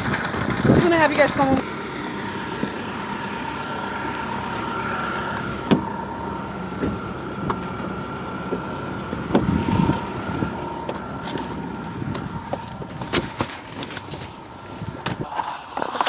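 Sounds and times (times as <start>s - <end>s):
vehicle hum: 0.0s - 16.0s.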